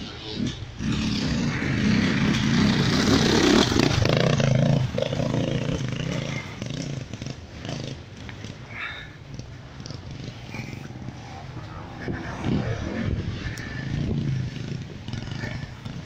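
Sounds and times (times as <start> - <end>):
motorcycle engine passing by: 0.0 - 16.0.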